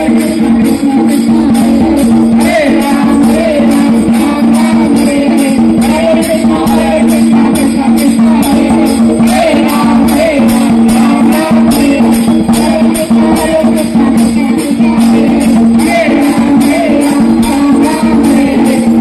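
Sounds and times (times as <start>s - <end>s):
metal hand cymbals: 0.0s - 19.0s
person singing: 0.0s - 19.0s.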